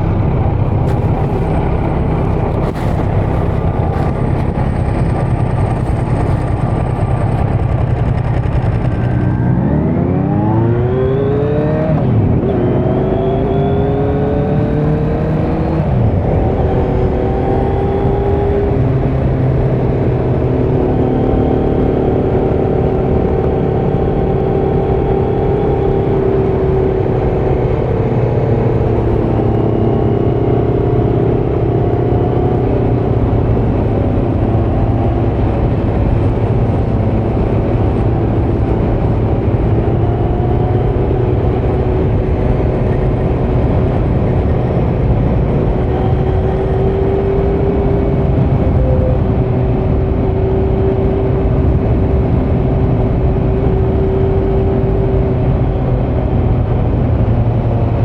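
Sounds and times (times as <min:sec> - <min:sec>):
motorcycle engine at steady revs: 0:00.0 - 0:58.0.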